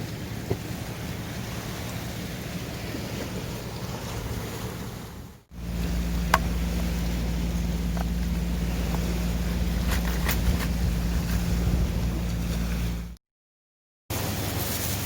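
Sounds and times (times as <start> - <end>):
waves washing on shore: 0.0 - 13.1, 14.1 - 15.0
wind rumbling on microphone: 0.0 - 13.2.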